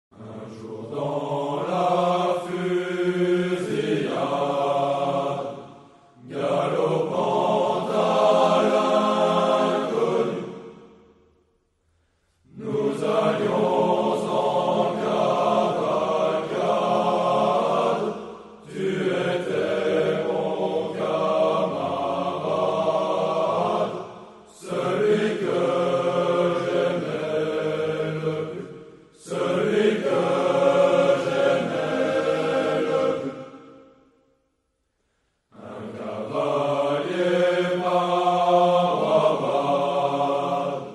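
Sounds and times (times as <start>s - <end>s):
choir singing: 0.1s - 11.3s, 12.4s - 34.2s, 35.5s - 40.9s.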